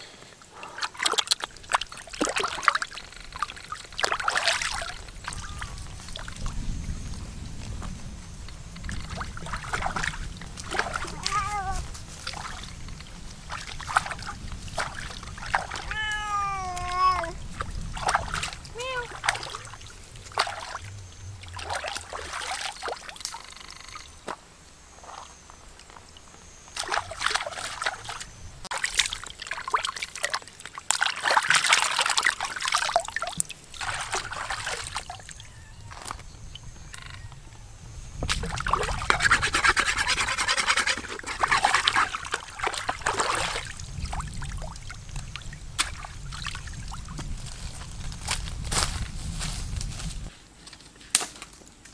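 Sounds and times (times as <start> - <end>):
water splashing and trickling: 0.0 - 36.7, 38.2 - 50.0.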